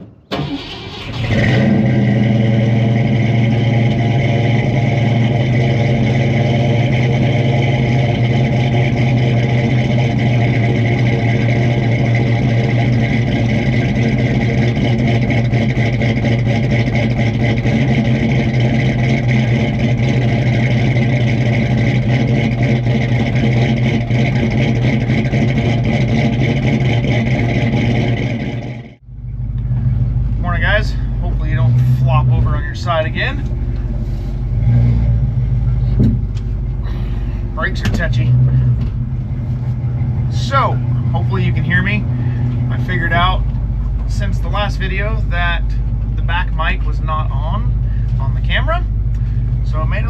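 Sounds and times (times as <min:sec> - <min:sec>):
car engine starting and running: 0:00.0 - 0:50.0.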